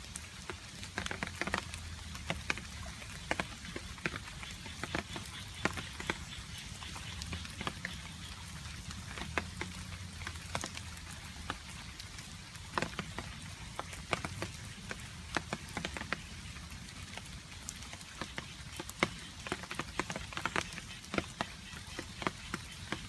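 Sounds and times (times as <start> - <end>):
rain falling: 0.0 - 23.0
water drops dripping: 0.0 - 23.0.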